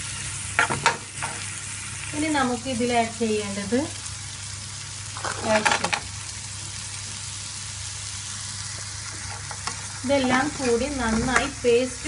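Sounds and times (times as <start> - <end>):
onions and tomatoes sizzling in pan: 0.0 - 12.0.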